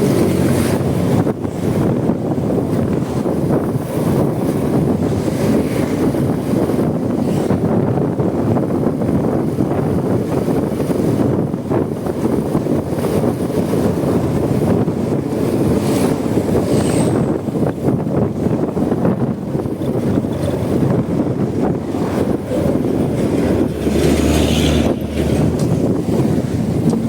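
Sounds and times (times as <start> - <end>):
road noise: 0.0 - 27.0
wind rushing over microphone: 0.0 - 27.0.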